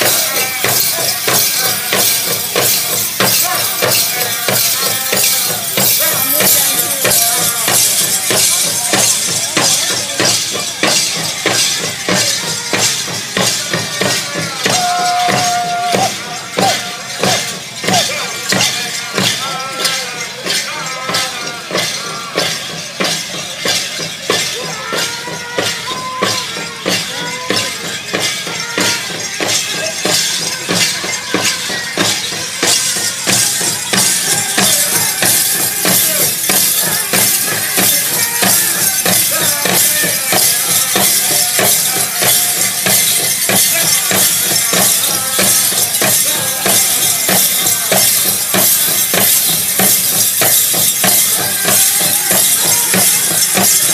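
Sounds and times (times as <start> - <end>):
bright jingling: 0.0 - 53.9
drum group singing: 0.0 - 53.9
steady beat on big drum: 0.0 - 53.9.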